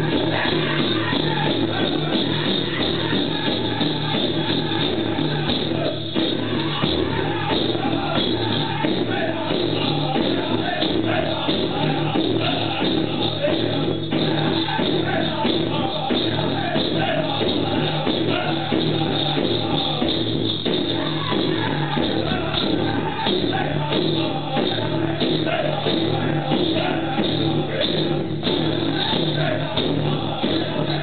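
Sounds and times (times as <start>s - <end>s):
music with singing: 0.0s - 31.0s.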